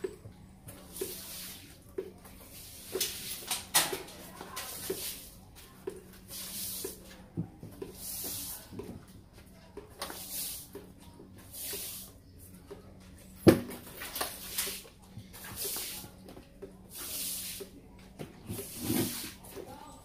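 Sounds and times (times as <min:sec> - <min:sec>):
broom sweeping wet tiles: 0:00.7 - 0:09.0, 0:09.9 - 0:12.7, 0:13.8 - 0:19.9.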